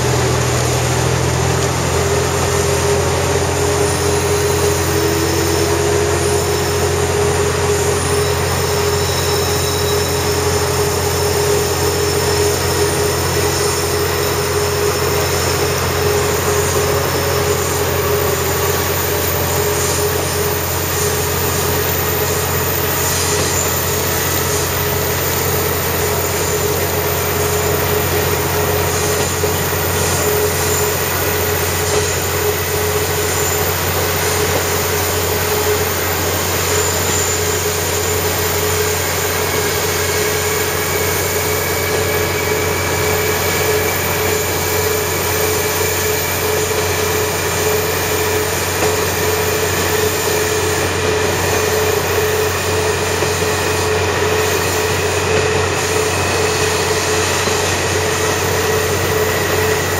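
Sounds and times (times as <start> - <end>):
faint rising whine: 0.0 - 59.9
railcar engine drone: 0.0 - 59.9
wheel-on-rail rumble: 0.0 - 59.9.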